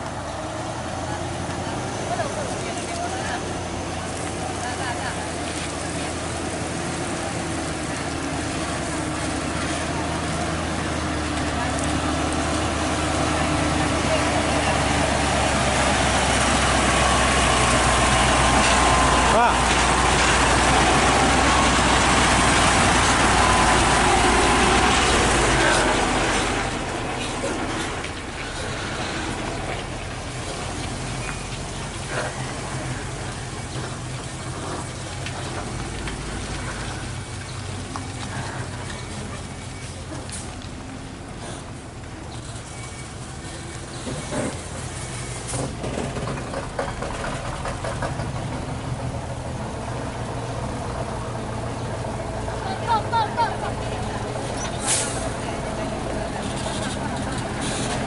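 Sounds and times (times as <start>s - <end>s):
diesel truck engine rumble: 0.0s - 58.0s.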